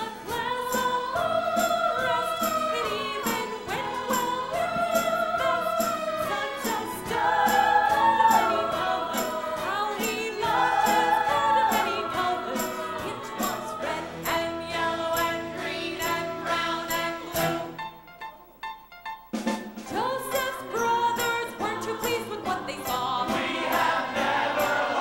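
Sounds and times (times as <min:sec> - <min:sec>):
ensemble singing in chorus: 0:00.0 - 0:17.8, 0:21.6 - 0:25.0.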